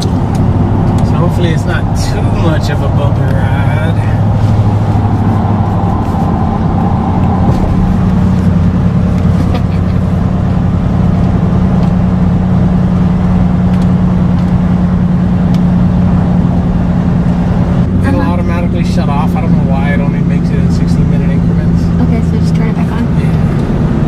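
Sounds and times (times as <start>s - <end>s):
car engine drone: 0.0s - 24.0s
road noise: 0.0s - 24.0s.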